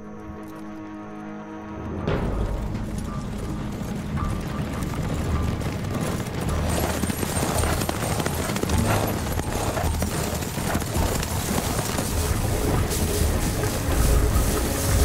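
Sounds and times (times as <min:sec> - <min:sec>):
horses galloping hoofbeats: 0:02.1 - 0:15.0
stagecoach rattling: 0:02.2 - 0:15.0.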